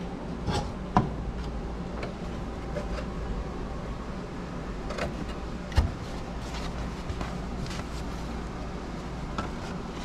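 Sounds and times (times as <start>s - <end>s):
extraction fan humming: 0.0s - 10.0s.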